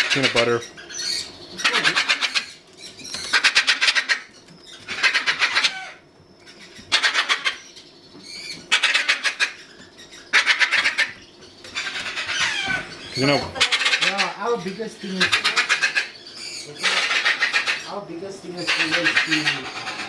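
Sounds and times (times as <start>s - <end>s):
parrots screeching: 0.0s - 20.0s.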